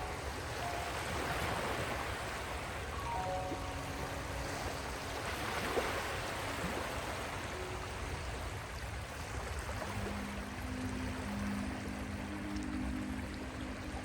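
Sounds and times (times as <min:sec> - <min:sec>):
rushing water: 0:00.0 - 0:14.0
soft ambient melody: 0:00.0 - 0:14.0.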